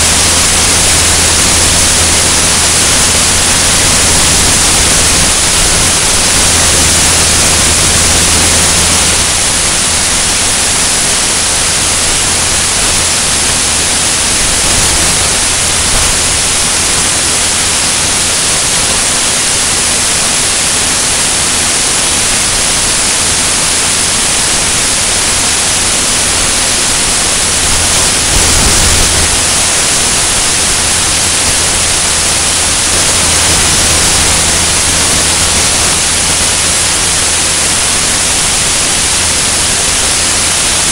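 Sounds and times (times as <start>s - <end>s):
aircraft engine and propeller drone: 0.0s - 40.9s
wind rushing over microphone: 0.0s - 40.9s.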